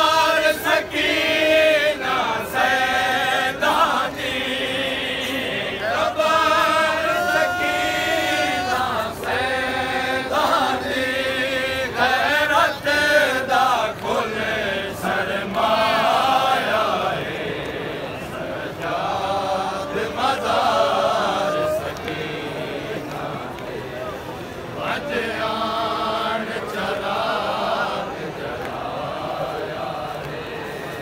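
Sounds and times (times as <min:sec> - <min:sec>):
men chanting a mourning lament: 0:00.0 - 0:31.0.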